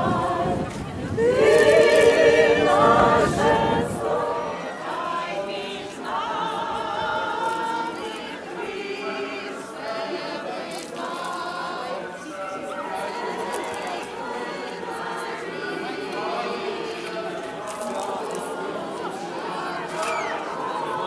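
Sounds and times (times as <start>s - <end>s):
choir singing chant: 0.0s - 21.0s.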